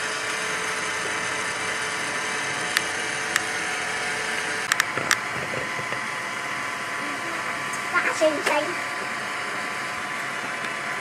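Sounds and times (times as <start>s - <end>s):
machine whir: 0.0s - 11.0s.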